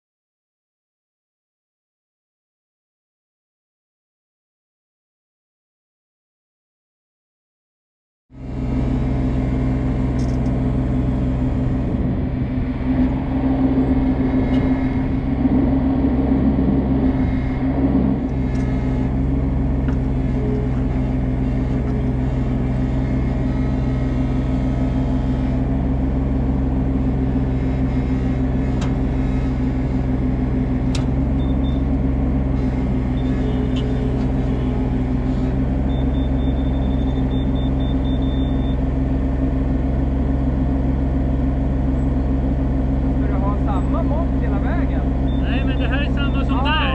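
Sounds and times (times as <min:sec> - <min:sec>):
mini excavator diesel engine: 0:08.3 - 0:46.9.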